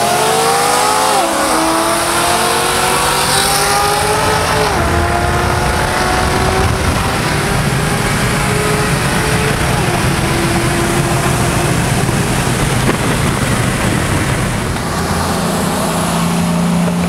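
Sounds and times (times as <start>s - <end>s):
car engine at full throttle: 0.0s - 17.0s
road and wind noise: 0.0s - 17.0s.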